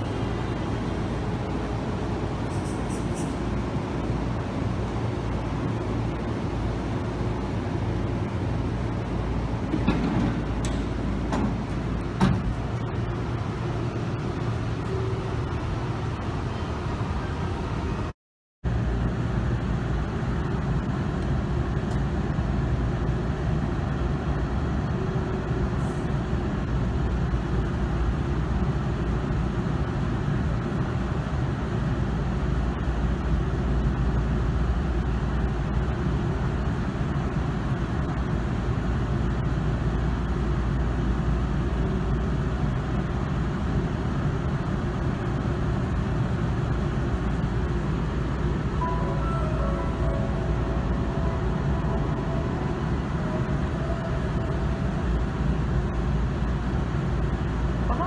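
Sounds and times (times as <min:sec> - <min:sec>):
train equipment humming: 0:00.0 - 0:18.1, 0:18.7 - 0:58.0.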